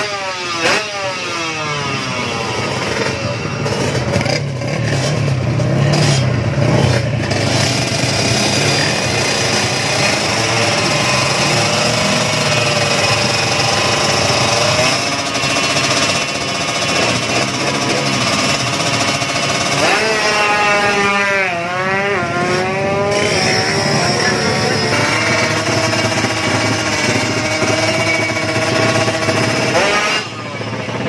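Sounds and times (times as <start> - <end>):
motorcycle engine revving and shifting: 0.0 - 31.0.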